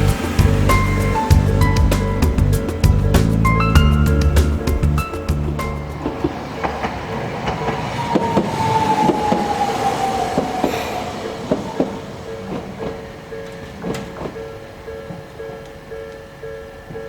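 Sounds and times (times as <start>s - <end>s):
crossing warning bell ringing: 0.0s - 9.7s, 10.3s - 17.0s
tram wheels clicking over rail joints: 0.0s - 17.0s
tram whine falling in pitch: 0.0s - 17.0s.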